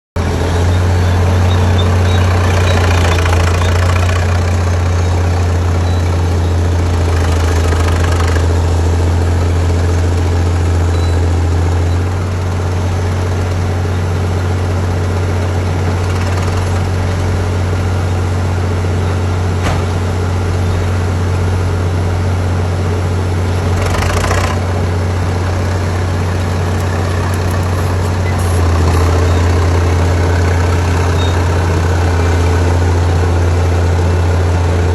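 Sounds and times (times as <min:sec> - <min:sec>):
loader engine deep hum: 0:00.2 - 0:34.9.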